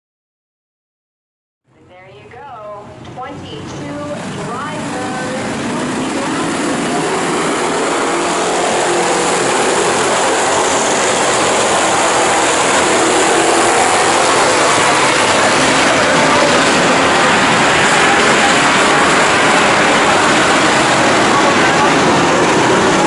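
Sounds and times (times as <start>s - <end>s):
stock car engines racing: 3.0s - 23.0s.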